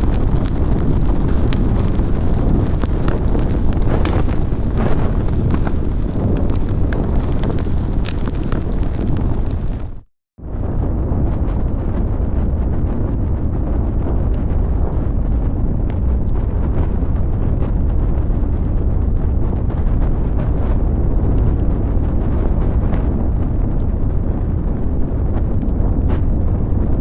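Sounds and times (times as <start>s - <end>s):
fire burning: 0.0s - 27.0s
fire crackling and popping: 0.0s - 27.0s.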